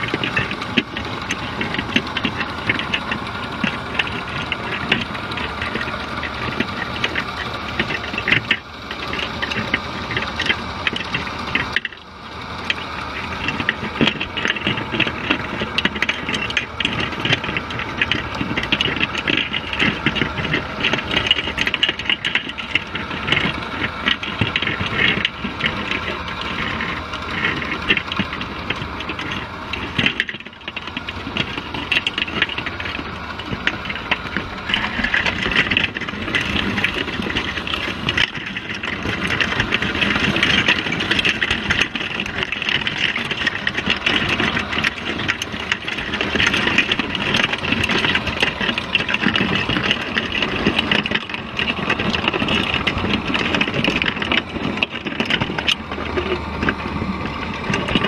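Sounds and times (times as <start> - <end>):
crabs clicking and scraping: 0.0 - 58.0
engine drone through water: 0.0 - 58.0.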